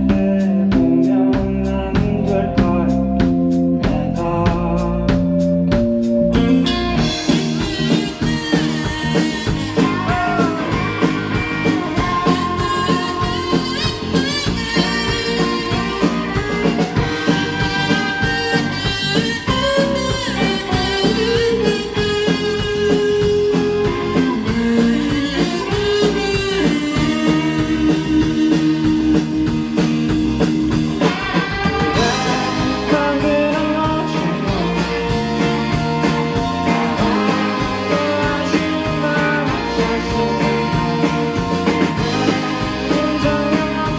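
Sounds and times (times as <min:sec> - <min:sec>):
electric guitar playing: 0:00.0 - 0:43.9
steady drums: 0:00.0 - 0:43.9.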